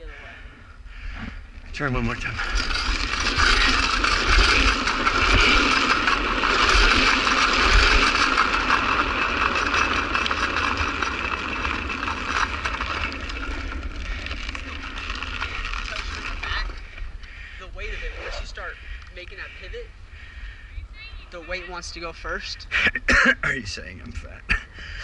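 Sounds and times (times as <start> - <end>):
wheels sliding on asphalt: 0.0 - 22.8.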